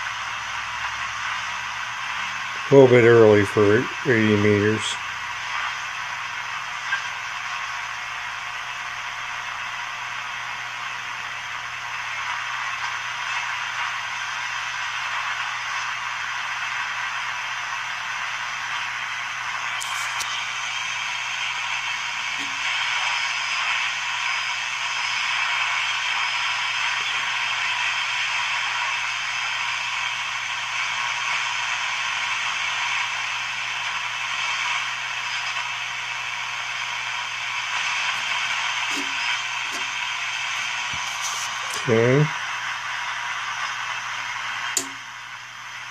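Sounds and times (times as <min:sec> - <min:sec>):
radio static and hiss: 0:00.0 - 0:45.9.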